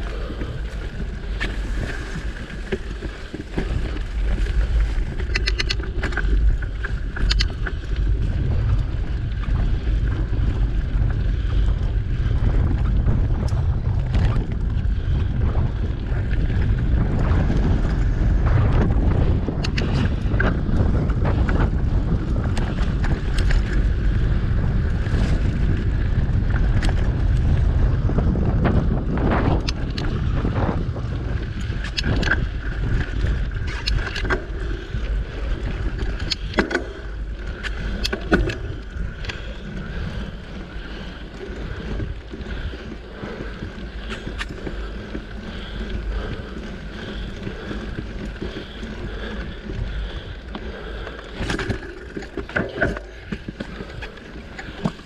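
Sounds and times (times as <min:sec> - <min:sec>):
bike rattling: 0:00.0 - 0:55.0
clicks and knocks over bumps: 0:00.0 - 0:55.0
wind buffeting microphone: 0:00.0 - 0:55.0.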